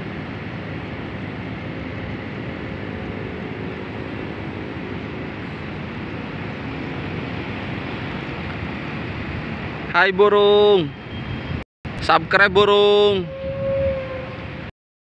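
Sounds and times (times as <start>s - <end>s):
urban background rumble and hiss: 0.0s - 14.7s.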